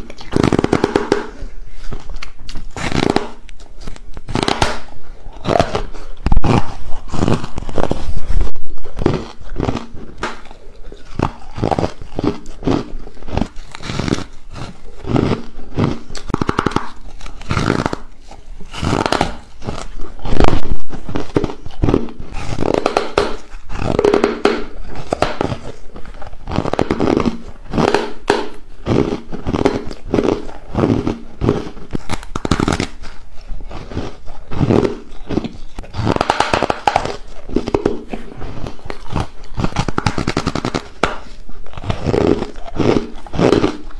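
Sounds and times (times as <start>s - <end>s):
ice crunching while chewed: 0.0s - 43.9s.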